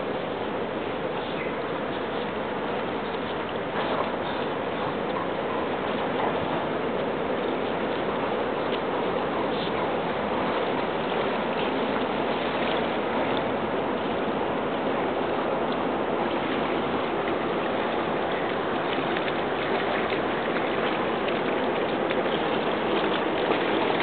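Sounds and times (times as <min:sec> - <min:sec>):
river water washing on shore: 0:00.0 - 0:24.0
dog splashing in shallow water: 0:02.8 - 0:24.0.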